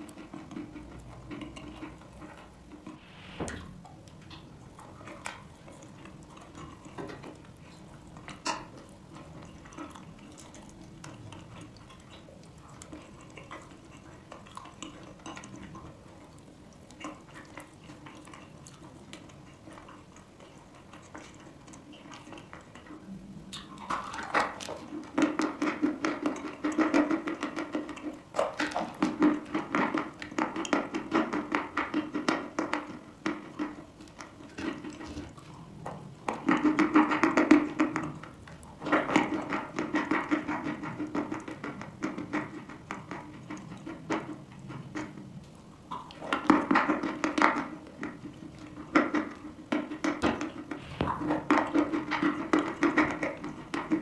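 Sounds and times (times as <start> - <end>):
chewing and crunching chalk: 0.0 - 2.9, 3.8 - 54.0.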